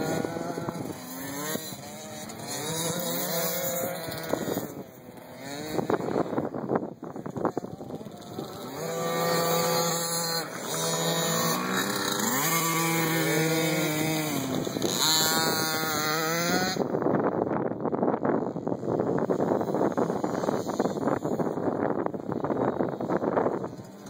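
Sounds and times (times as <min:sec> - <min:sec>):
dirt bike engines revving: 0:00.0 - 0:24.0
wind buffeting microphone: 0:00.0 - 0:24.0.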